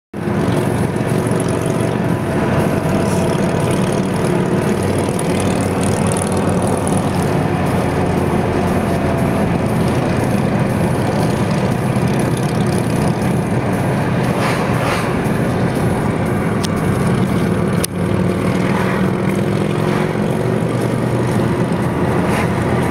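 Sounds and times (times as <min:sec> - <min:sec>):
motorcycle engines rumbling: 0:00.2 - 0:22.9.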